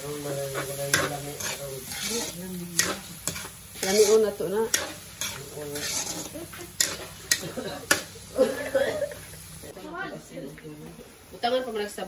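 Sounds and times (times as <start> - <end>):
metal spatula scraping wok: 0.0 - 9.8
meat sizzling: 0.0 - 12.0.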